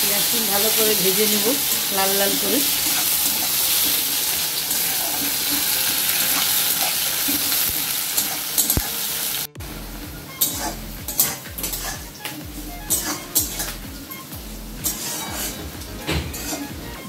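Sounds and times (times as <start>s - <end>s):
onions sizzling in oil: 0.0s - 17.0s
metal spatula scraping a pan: 0.2s - 9.0s, 10.3s - 13.8s, 14.8s - 17.0s.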